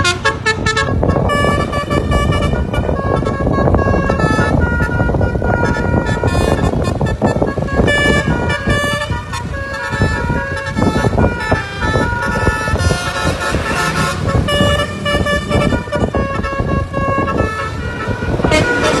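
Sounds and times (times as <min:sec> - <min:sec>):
musical air horn tune: 0:00.0 - 0:19.0.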